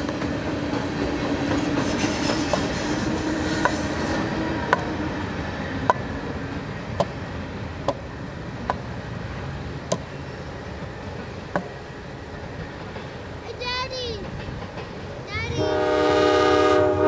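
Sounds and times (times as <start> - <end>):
freight train rumble: 0.0 - 17.0.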